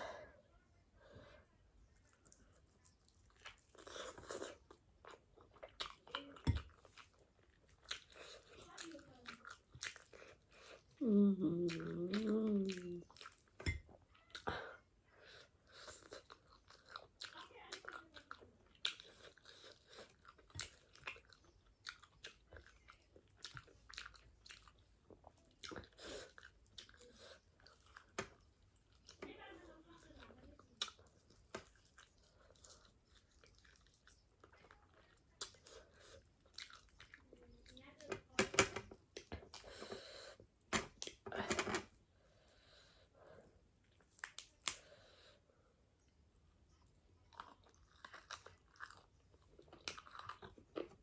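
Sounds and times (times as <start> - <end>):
person chewing food: 1.8 - 29.2, 30.5 - 37.9, 43.0 - 45.4, 46.5 - 51.0.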